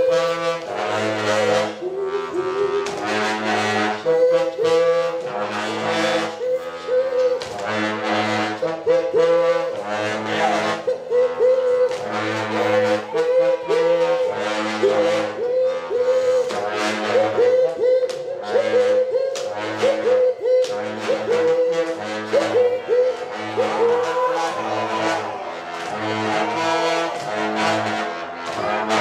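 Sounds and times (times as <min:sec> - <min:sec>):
ensemble playing live music: 0:00.0 - 0:29.0.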